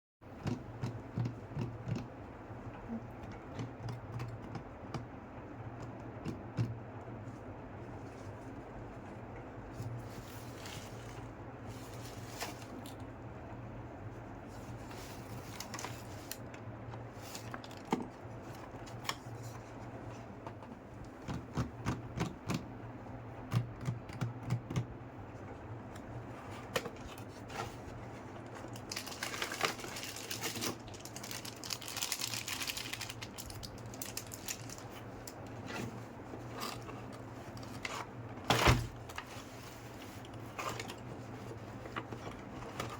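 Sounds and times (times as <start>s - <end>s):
low steady hum: 0.2s - 42.9s.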